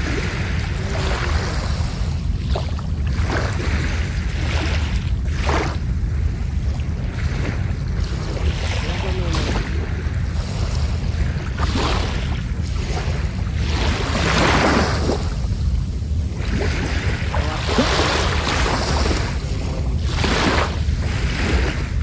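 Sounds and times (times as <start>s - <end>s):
low wind rumble on microphone: 0.0s - 22.0s
sea waves breaking on shore: 0.0s - 22.0s.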